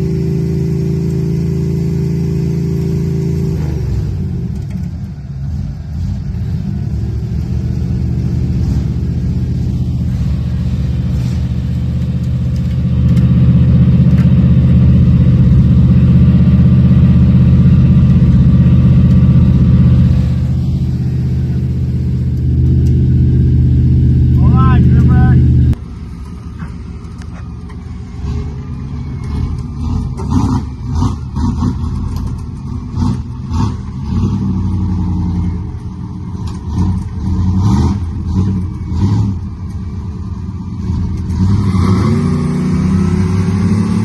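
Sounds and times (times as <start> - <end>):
vehicle engine revving: 0.0 - 44.0.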